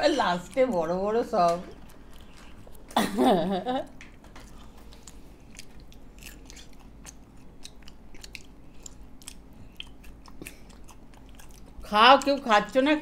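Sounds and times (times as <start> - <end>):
people chewing chocolate: 0.0 - 12.7.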